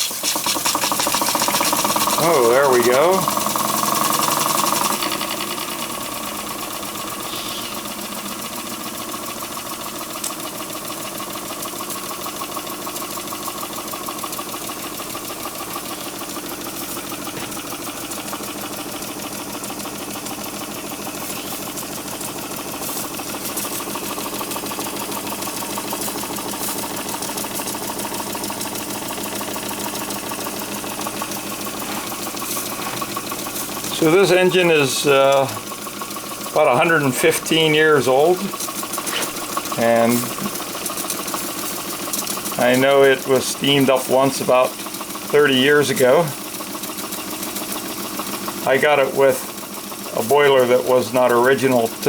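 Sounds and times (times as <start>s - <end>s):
toy steam engine clattering: 0.0s - 52.0s.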